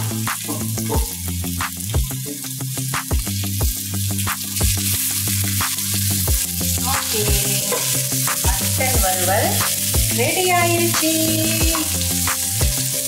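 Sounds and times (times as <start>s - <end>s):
background music with steady beat: 0.0s - 13.0s
meat sizzling in a pan: 0.0s - 13.0s.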